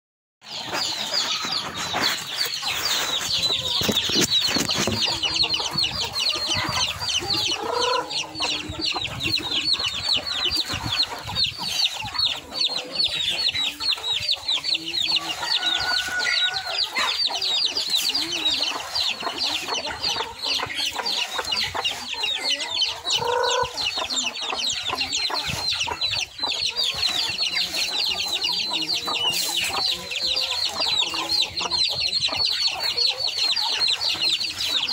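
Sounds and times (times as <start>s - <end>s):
loud low chicken calls: 0.4s - 11.8s, 14.8s - 34.9s
chickens clucking: 0.4s - 34.9s
high chick chirps: 0.4s - 34.9s.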